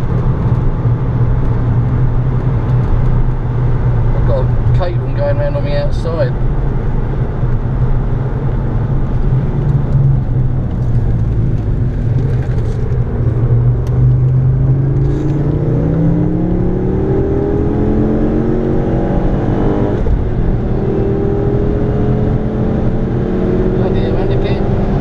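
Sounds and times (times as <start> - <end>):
car engine from inside cabin: 0.0 - 25.0
road and wind noise: 0.0 - 25.0.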